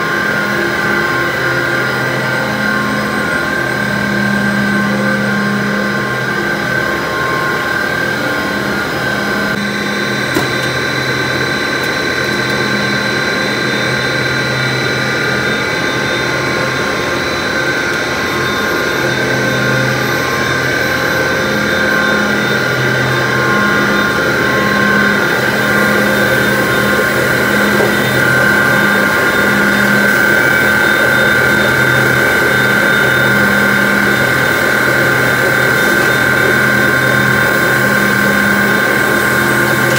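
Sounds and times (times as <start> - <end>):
low machine hum: 0.0 - 39.9
machinery high whine: 0.0 - 39.9.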